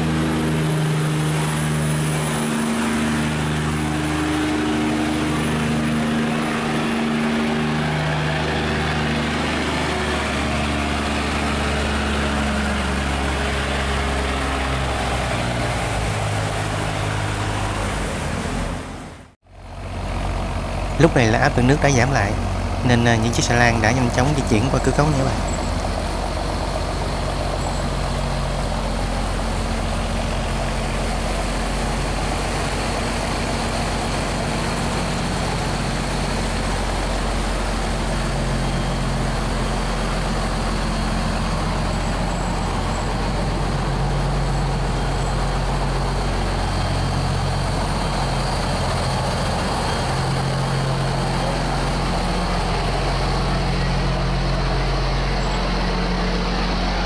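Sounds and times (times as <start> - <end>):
diesel boat engine running: 0.0 - 57.0
water churning along hull: 0.0 - 57.0.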